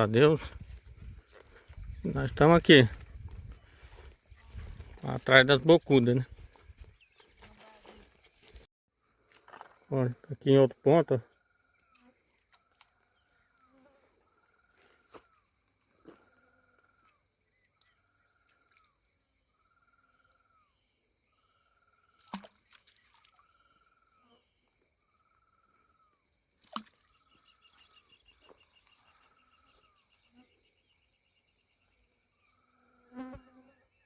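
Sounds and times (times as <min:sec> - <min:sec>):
insects humming: 0:00.0 - 0:34.0.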